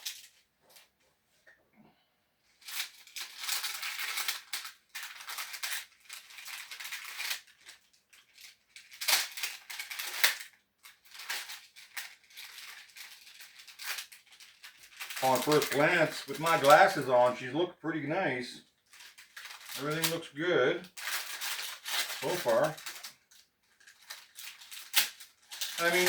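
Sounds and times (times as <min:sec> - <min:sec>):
packaging rustling and crackling: 0:00.0 - 0:00.9, 0:02.6 - 0:17.3, 0:18.7 - 0:26.0.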